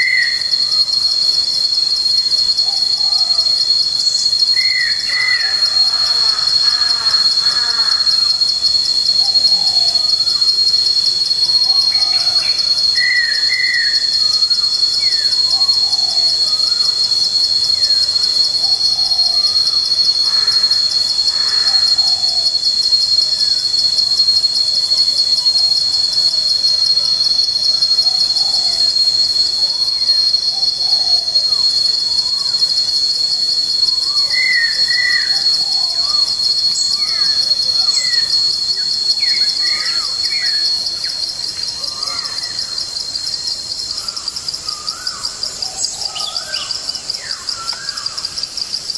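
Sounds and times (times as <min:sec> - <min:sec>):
high-pitched insect trill: 0:00.0 - 0:48.9.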